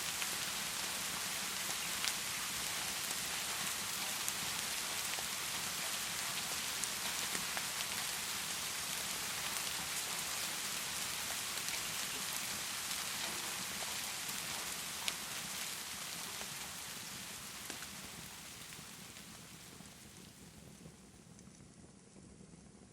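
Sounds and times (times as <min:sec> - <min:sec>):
heavy rain: 0:00.0 - 0:20.4.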